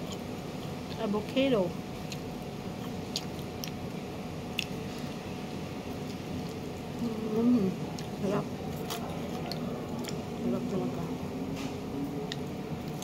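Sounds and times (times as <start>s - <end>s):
person chewing: 0.0s - 1.0s, 1.9s - 10.4s, 11.9s - 13.0s.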